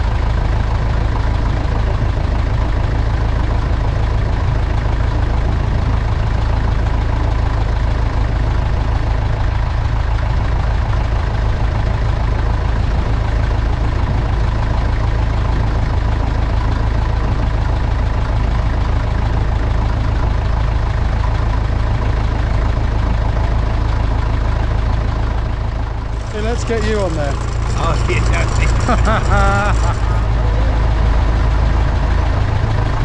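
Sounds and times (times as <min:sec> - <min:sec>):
tractor engine idling: 0:00.0 - 0:33.0.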